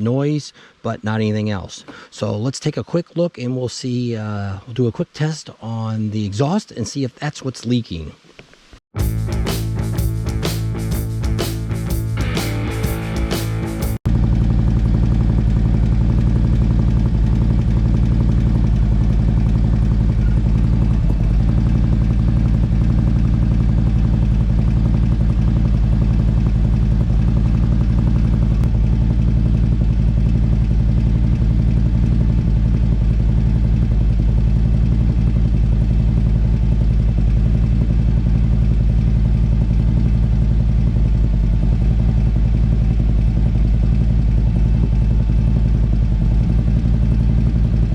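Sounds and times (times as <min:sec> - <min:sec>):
motorcycle engine idling: 0:09.0 - 0:47.9.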